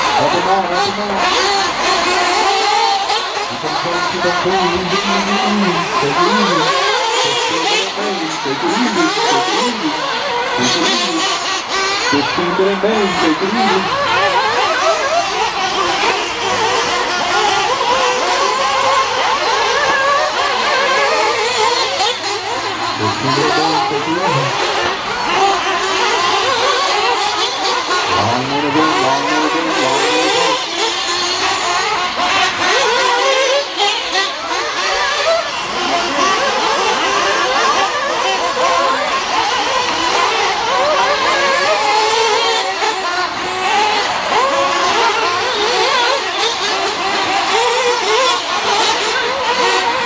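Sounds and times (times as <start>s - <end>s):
rc buggy engines whining: 0.0s - 50.0s.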